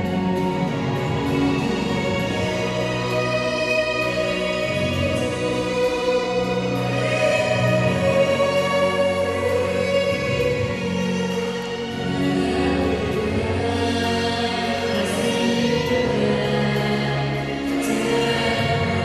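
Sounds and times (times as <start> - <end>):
choir music with instruments: 0.0 - 19.0.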